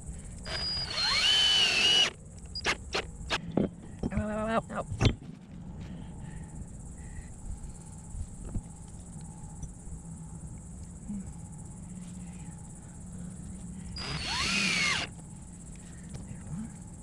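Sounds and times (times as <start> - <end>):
insects droning: 0.0 - 17.0
low hum and rumble: 0.0 - 17.0.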